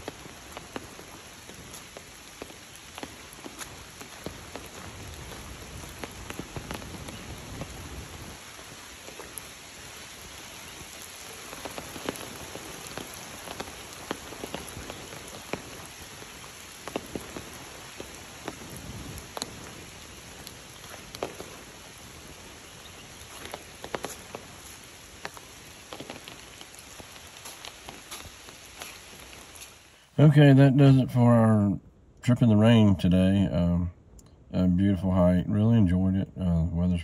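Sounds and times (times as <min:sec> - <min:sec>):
raindrops tapping close by: 0:00.0 - 0:29.9
steady rain hiss: 0:00.0 - 0:37.0.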